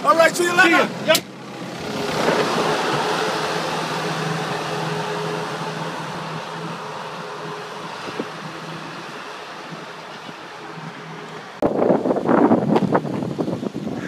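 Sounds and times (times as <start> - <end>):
running vehicle hum: 0.0 - 14.0.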